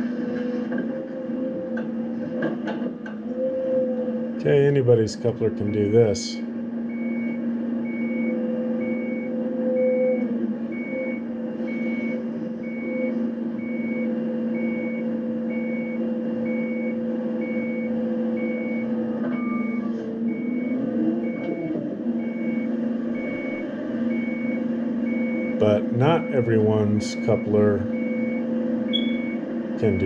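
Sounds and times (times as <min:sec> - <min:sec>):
excavator engine and hydraulics drone: 0:00.0 - 0:30.0
warning alarm beeping: 0:04.6 - 0:30.0.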